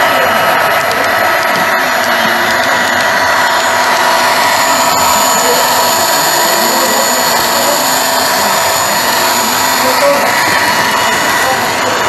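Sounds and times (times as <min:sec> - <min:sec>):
model locomotive engine drone: 0:00.0 - 0:12.0.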